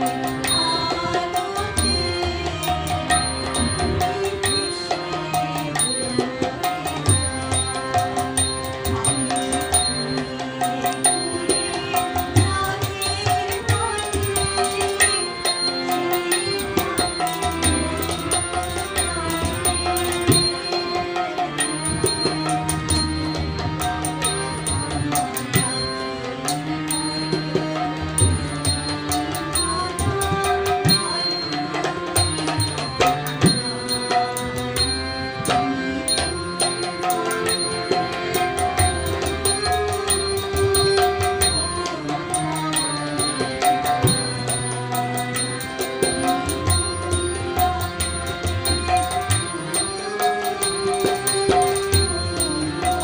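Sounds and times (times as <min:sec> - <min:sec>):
harmonium held notes: 0:00.0 - 0:53.0
tabla playing: 0:00.0 - 0:53.0
woman singing: 0:00.0 - 0:53.0.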